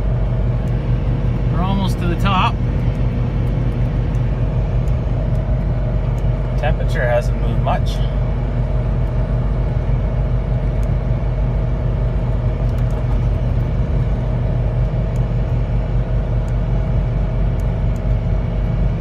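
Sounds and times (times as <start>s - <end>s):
road noise: 0.0s - 19.0s
truck engine droning under load: 0.0s - 19.0s.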